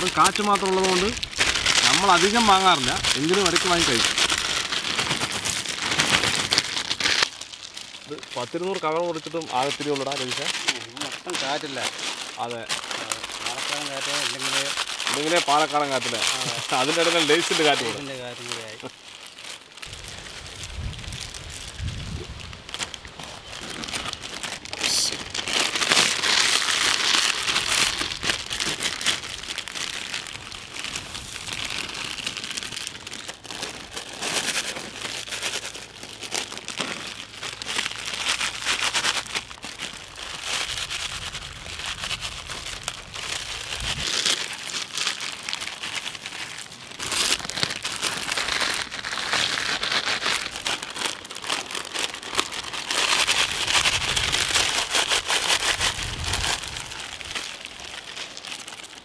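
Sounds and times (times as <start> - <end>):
plastic packets crinkling: 0.0 - 59.0.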